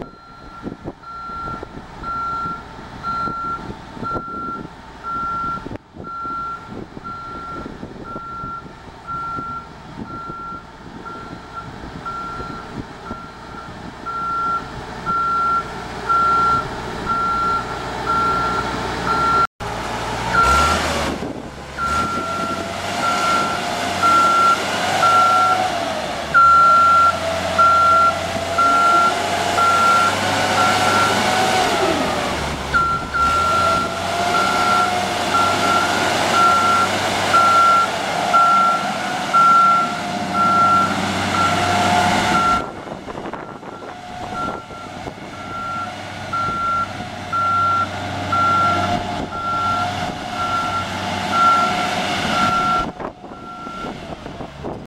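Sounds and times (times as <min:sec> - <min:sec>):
engine and hydraulics running: 0:00.0 - 0:54.9.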